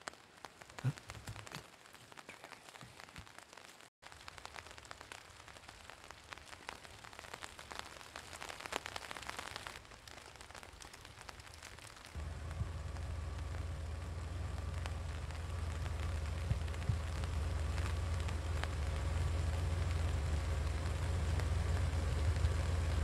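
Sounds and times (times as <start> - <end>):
sleet and rain pattering: 0.0 - 23.0.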